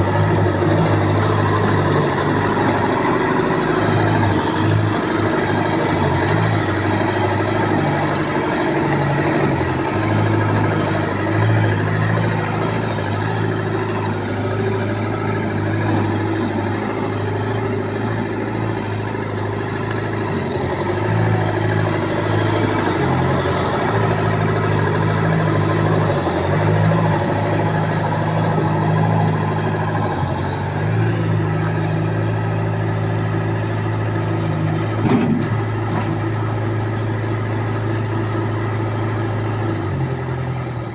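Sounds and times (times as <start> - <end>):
construction machine engine running: 0.0 - 40.9.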